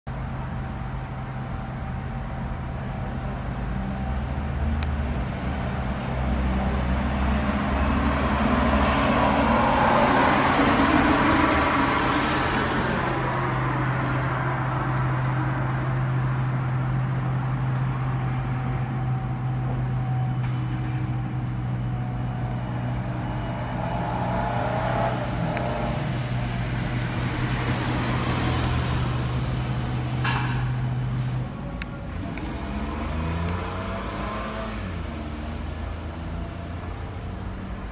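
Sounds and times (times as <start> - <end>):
car passing: 3.6 - 37.9.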